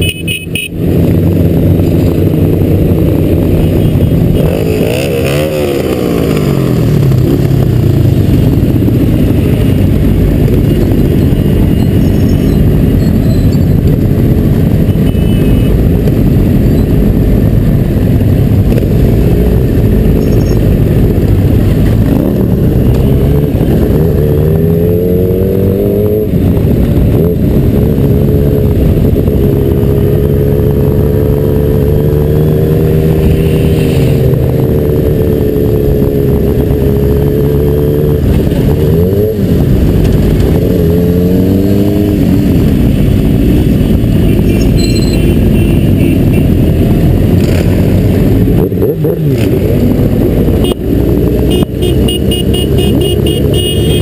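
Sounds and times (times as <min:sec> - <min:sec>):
heavy wind noise: 0:00.0 - 0:54.0
motorcycle engine accelerating: 0:00.0 - 0:54.0
rumble of other motorcycles: 0:00.0 - 0:54.0.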